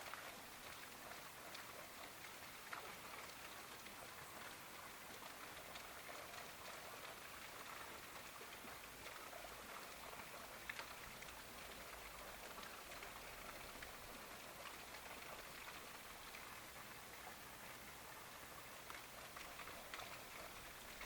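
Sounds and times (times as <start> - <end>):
light rain hiss: 0.0 - 21.0
soft raindrop ticks: 0.0 - 21.0.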